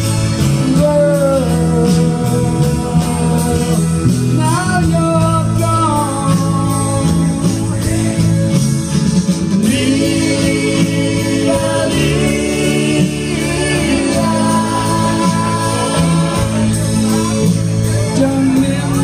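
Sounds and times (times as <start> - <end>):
bass guitar: 0.0 - 19.0
guitars playing: 0.0 - 19.0
person singing into microphone: 0.4 - 8.6, 9.6 - 19.0.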